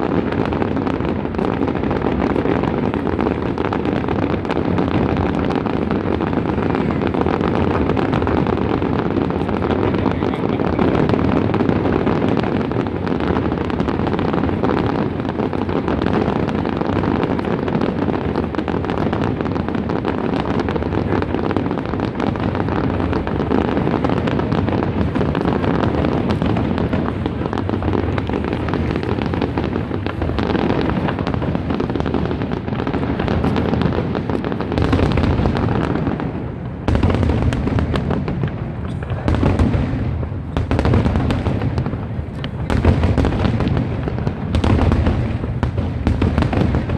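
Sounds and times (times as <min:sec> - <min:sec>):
fireworks bursting and crackling: 0:00.0 - 0:46.9.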